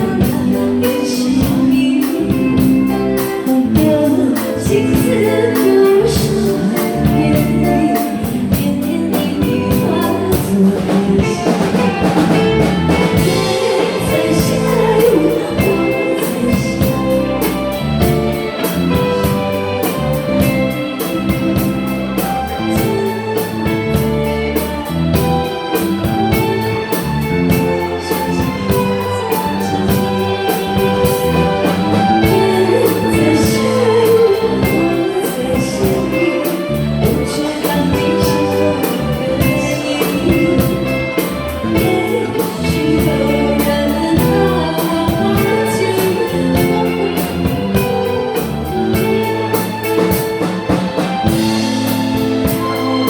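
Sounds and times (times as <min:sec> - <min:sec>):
pop ballad music: 0:00.0 - 0:53.0.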